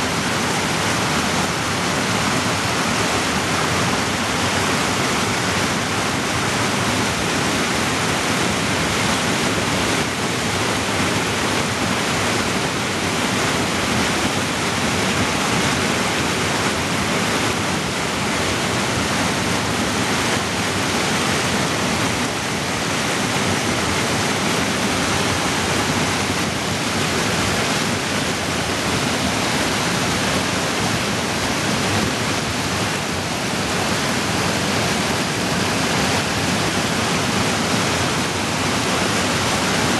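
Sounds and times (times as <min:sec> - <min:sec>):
creek rushing over boulders: 0:00.0 - 0:39.9.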